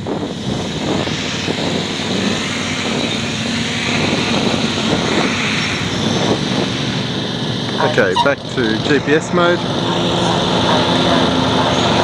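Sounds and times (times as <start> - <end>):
drone propellers buzzing: 0.0 - 12.0.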